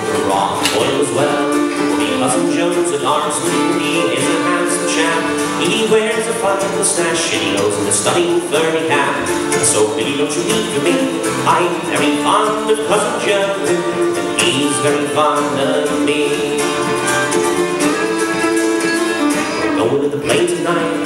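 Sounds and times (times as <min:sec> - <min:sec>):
fiddle melody: 0:00.0 - 0:21.0
mandolin: 0:00.0 - 0:21.0
strummed acoustic guitar: 0:00.0 - 0:21.0.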